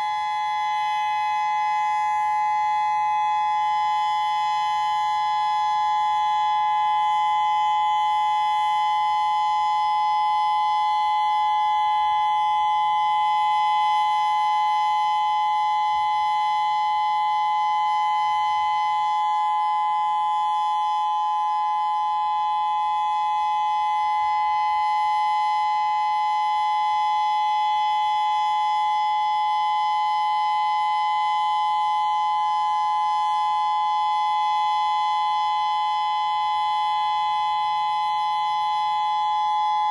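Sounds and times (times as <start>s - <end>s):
electronic siren steady tone: 0.0s - 39.9s.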